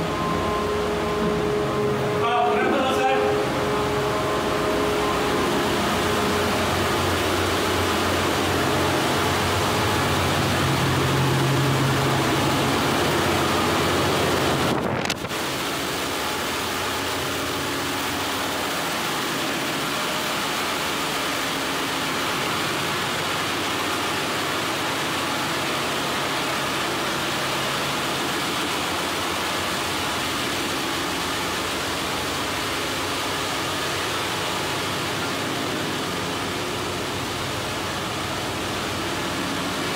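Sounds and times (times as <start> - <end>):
ship engine room machinery drone: 0.0 - 39.9.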